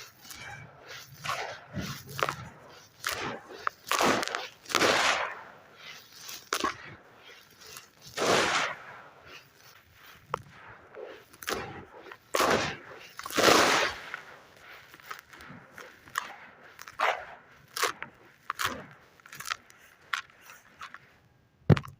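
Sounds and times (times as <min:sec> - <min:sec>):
sand lumps crunching in water: 0:00.0 - 0:21.2.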